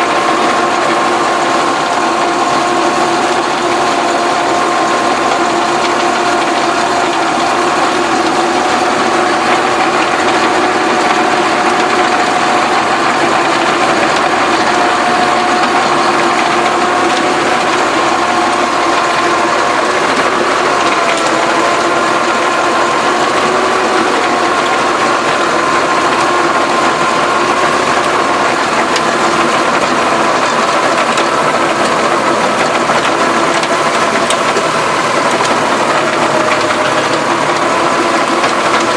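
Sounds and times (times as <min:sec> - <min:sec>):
mechanical clatter: 0:00.0 - 0:38.9
tractor diesel engine running: 0:00.0 - 0:38.9.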